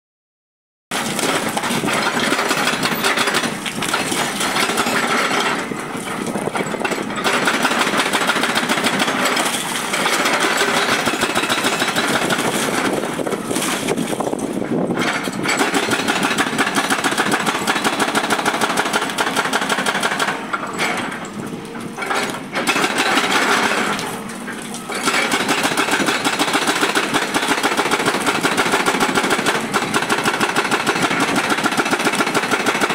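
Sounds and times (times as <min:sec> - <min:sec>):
hydraulic breaker hammering rock: 0:00.9 - 0:32.9.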